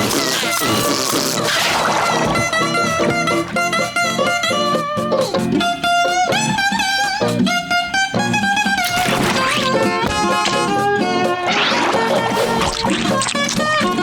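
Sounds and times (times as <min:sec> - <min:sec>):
guitar melody with sliding notes: 0:00.0 - 0:14.0.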